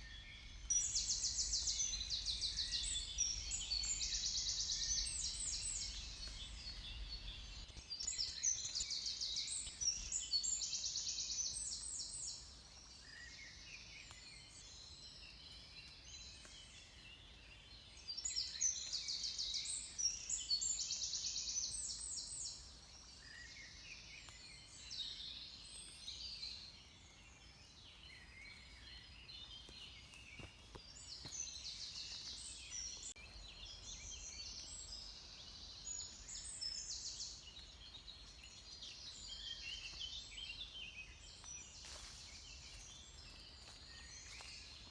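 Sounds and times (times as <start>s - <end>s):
songbirds trilling: 0.4s - 44.9s.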